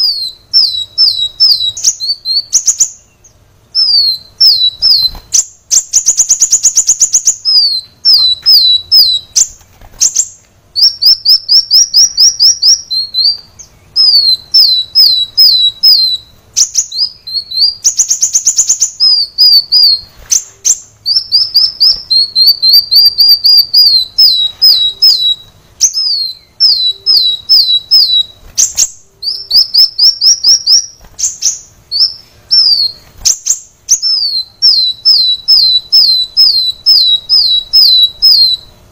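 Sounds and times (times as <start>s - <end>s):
bird high chip notes: 0.0s - 38.9s
bird rapid buzzy trill: 0.0s - 38.9s.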